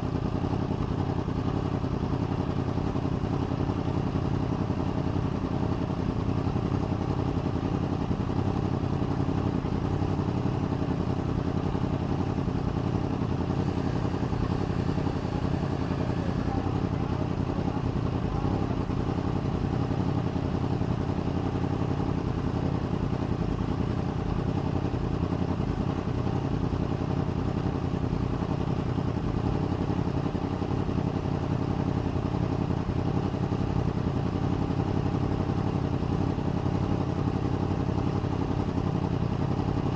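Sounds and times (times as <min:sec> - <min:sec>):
vehicle engine running steadily: 0:00.0 - 0:39.9.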